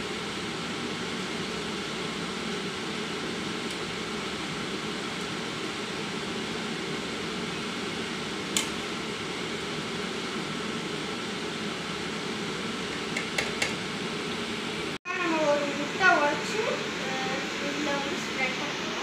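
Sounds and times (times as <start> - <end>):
steady whirring hum: 0.0 - 19.0.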